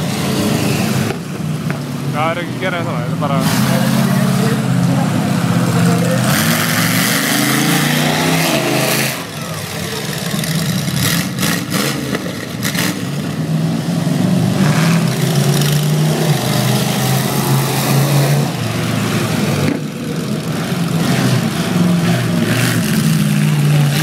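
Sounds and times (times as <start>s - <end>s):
monster truck engine revving: 2.1s - 24.0s.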